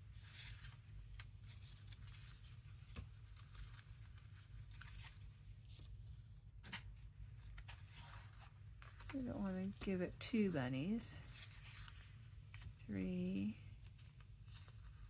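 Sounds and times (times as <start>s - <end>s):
paper cards rustling: 0.1s - 15.0s.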